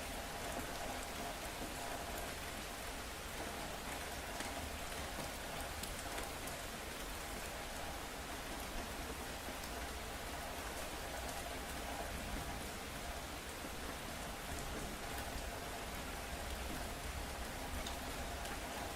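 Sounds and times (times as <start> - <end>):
rain on hard surfaces: 0.0 - 18.9.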